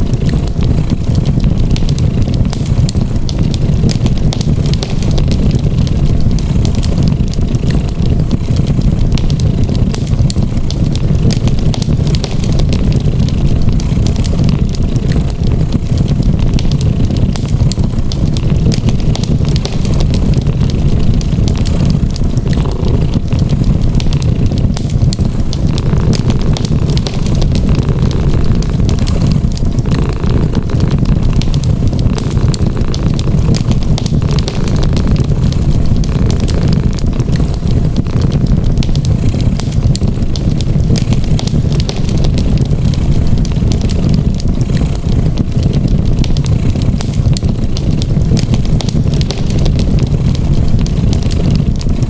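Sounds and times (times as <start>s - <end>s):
cat purring: 0.0s - 45.9s
fire crackling: 0.0s - 52.0s.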